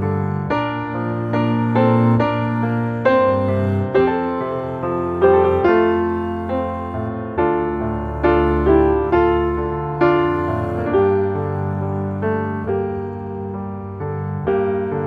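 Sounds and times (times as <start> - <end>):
slow gentle piano chords: 0.0 - 15.0.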